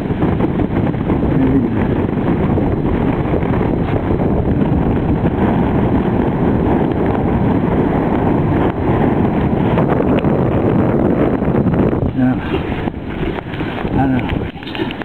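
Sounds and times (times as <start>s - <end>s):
gusting wind buffeting microphone: 0.0s - 15.0s.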